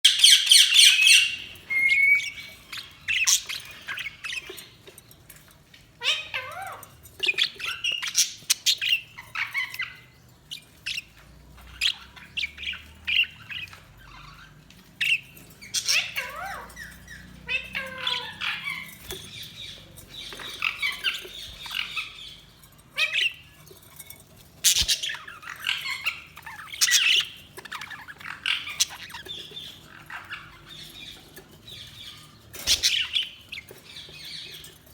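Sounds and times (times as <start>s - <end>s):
budgerigars chirping and squawking: 0.0s - 34.9s.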